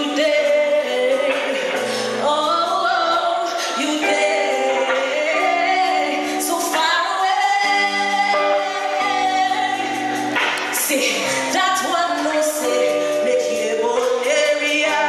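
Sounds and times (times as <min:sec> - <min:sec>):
sustained backing chords: 0:00.0 - 0:15.0
woman singing into a microphone: 0:00.0 - 0:15.0.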